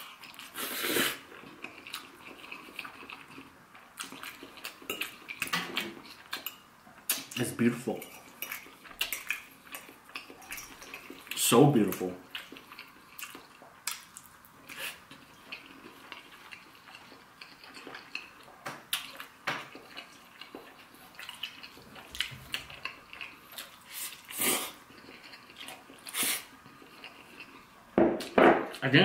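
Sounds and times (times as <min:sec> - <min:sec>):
wet chewing and mouth clicks: 0:00.0 - 0:07.4, 0:08.0 - 0:28.8.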